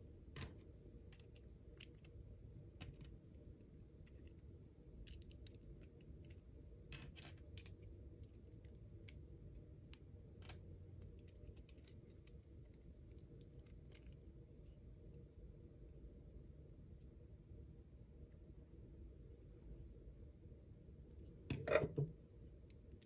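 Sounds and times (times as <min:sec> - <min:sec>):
low room noise: 0:00.0 - 0:23.0.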